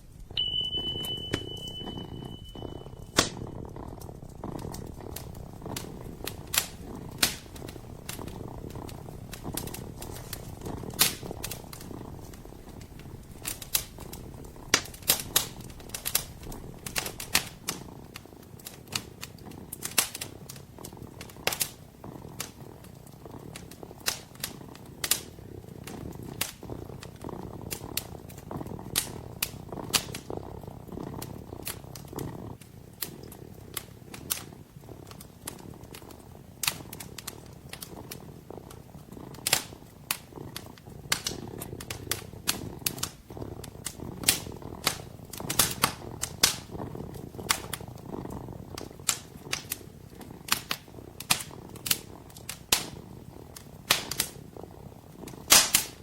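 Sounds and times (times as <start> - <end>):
kitten purring: 0.0 - 56.0
wood fire crackling: 0.0 - 56.0.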